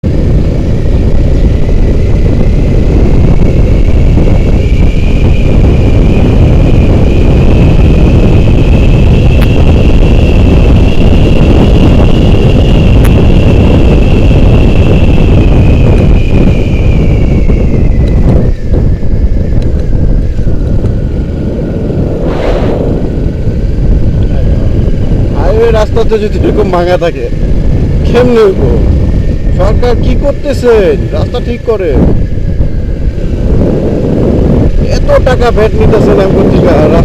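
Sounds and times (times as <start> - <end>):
thin high whine: 0.0 - 37.0
wind buffeting microphone: 0.0 - 37.0.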